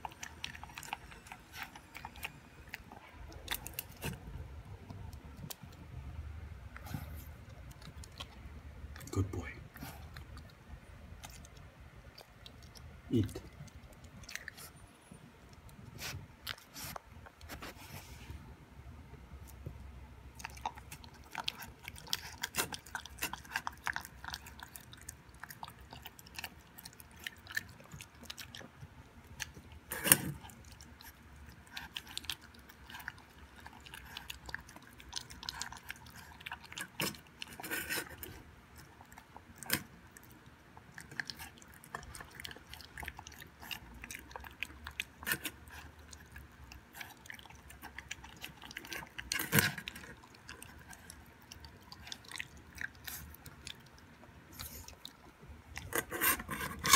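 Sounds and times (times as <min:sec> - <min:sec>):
puppy chewing food: 0:00.0 - 0:17.8, 0:19.3 - 0:56.9.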